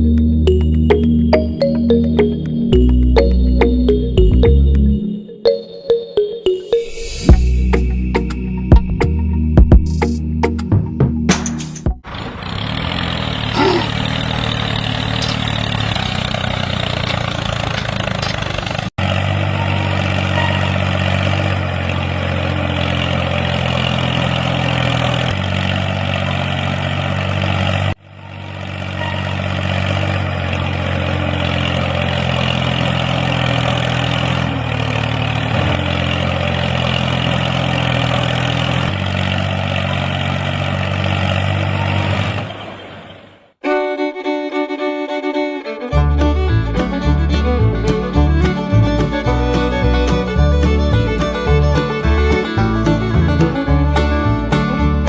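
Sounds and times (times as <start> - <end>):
engine drone: 0.0 - 55.0.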